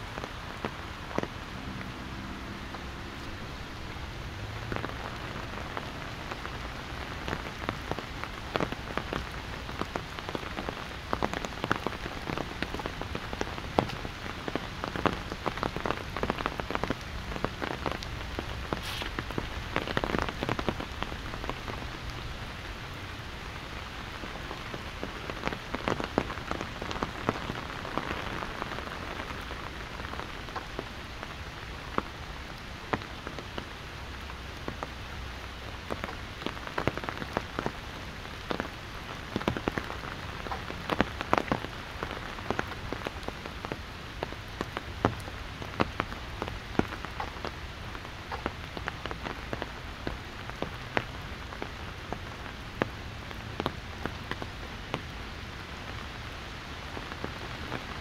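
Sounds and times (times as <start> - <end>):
raindrops striking an umbrella: 0.0 - 58.0
steady rain: 0.0 - 58.0.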